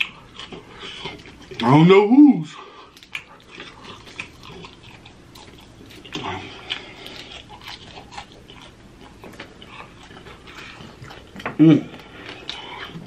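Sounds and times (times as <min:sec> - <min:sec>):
wet chewing and lip-smacking: 0:00.0 - 0:01.7, 0:02.5 - 0:13.0.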